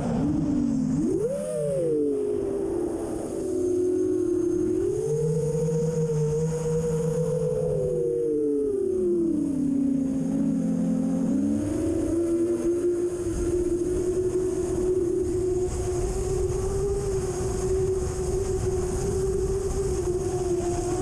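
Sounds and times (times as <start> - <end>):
drone motors whining: 0.0 - 21.0
strong wind rumble: 0.0 - 21.0.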